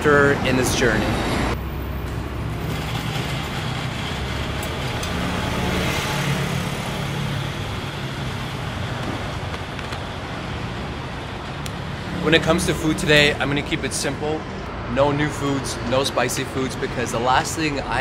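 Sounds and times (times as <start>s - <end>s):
street traffic hum: 0.0s - 18.0s.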